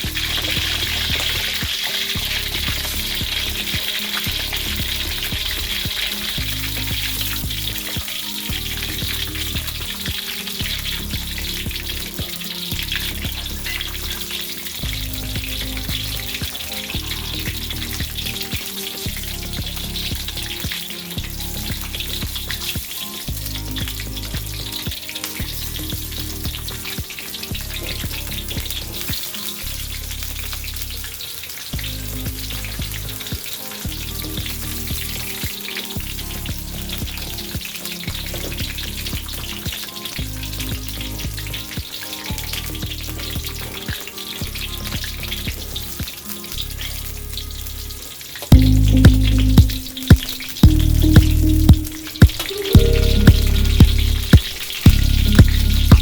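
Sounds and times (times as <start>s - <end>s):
food sizzling in hot oil: 0.0s - 55.9s.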